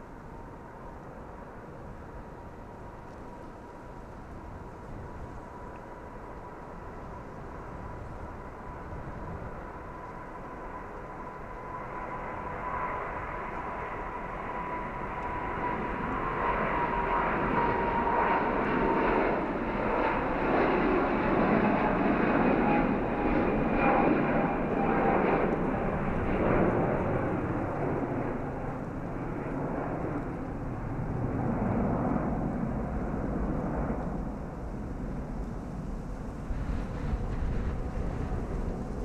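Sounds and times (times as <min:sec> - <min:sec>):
jet engines roaring past: 0:00.0 - 0:39.0.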